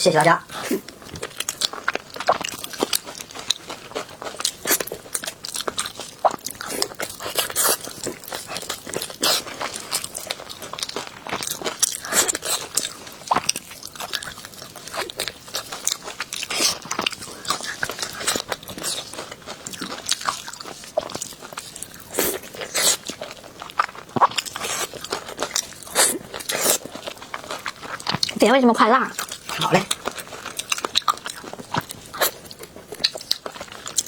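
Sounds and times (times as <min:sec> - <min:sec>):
crunchy chewing and biting: 0:00.5 - 0:28.4, 0:29.1 - 0:34.0.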